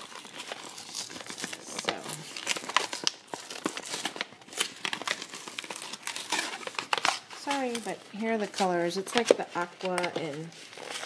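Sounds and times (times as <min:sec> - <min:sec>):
paper packaging tearing and crinkling: 0:00.0 - 0:11.0.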